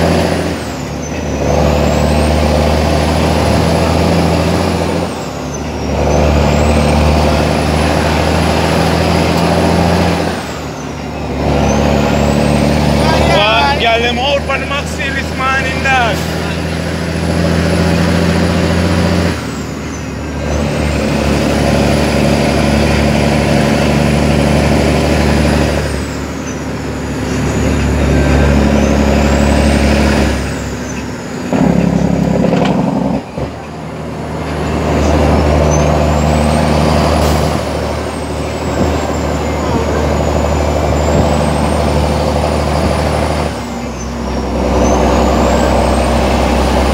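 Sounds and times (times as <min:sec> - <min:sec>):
truck diesel engine: 0:00.0 - 0:46.9.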